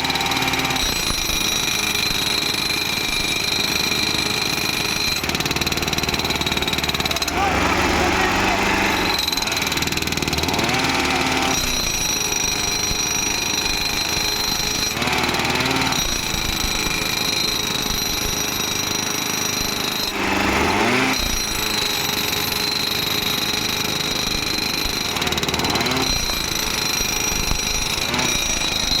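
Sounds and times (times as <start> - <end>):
high machine whine: 0.0 - 29.0
power tampers hammering: 0.0 - 29.0
short louder hammering bursts: 0.0 - 29.0.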